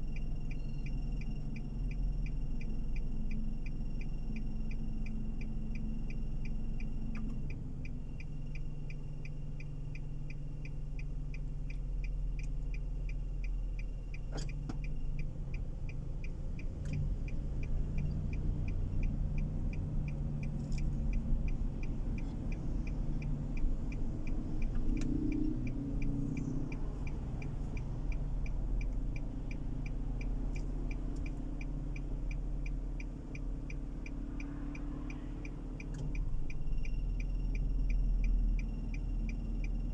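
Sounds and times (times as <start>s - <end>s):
engine and road hum: 0.0s - 39.9s
steady ticking: 0.0s - 39.9s.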